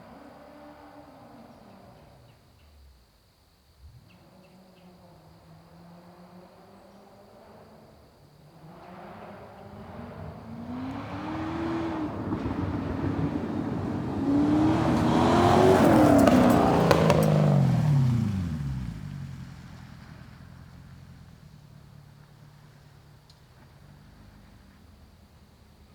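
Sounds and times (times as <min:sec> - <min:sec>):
car accelerating past: 0:04.1 - 0:25.4.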